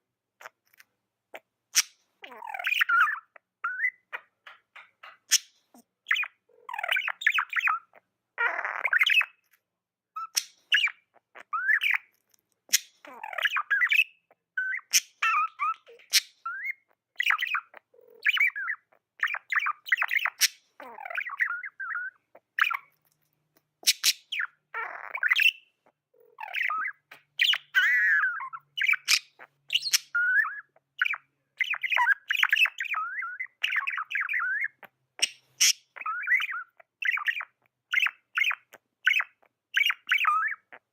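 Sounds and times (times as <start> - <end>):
budgerigar chirps and squawks: 0.4 - 9.6, 10.2 - 23.0, 23.6 - 40.9.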